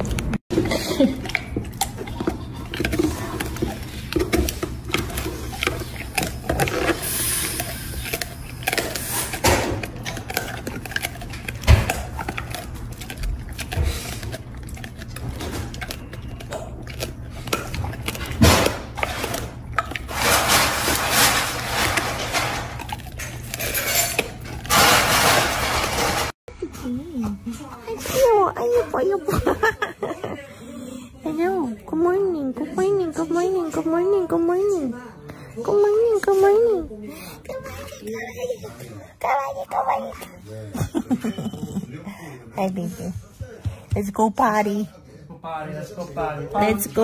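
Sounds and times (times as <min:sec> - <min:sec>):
dogs chewing and crunching treats: 0:00.0 - 0:44.9, 0:45.7 - 0:47.0.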